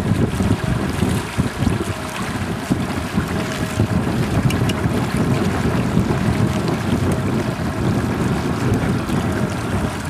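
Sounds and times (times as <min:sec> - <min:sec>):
boat motor trolling: 0:00.0 - 0:10.0
wind buffeting microphone: 0:00.0 - 0:10.0.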